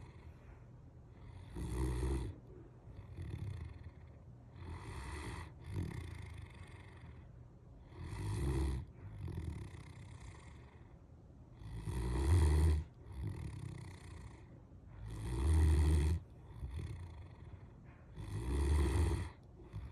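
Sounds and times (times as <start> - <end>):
dog snoring: 0.0 - 19.9.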